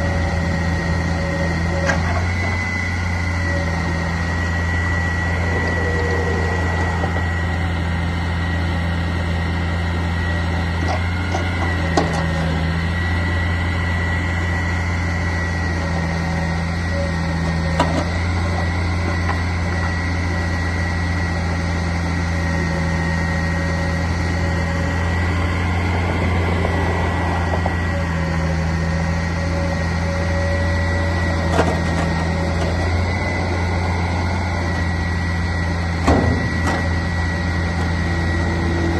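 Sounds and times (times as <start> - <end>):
garbage truck engine running: 0.0 - 38.9
high whine: 0.0 - 38.9.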